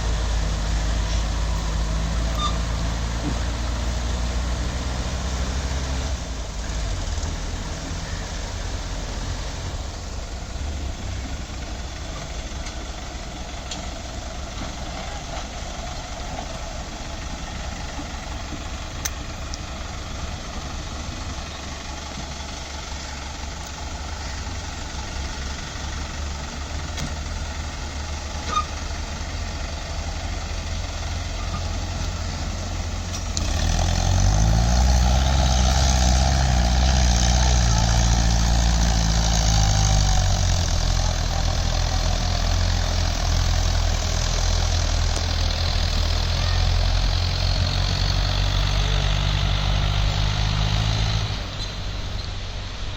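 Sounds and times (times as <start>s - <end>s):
engine revving up: 0.0s - 11.6s, 17.9s - 52.9s
diesel tractor engine idling: 0.0s - 52.9s.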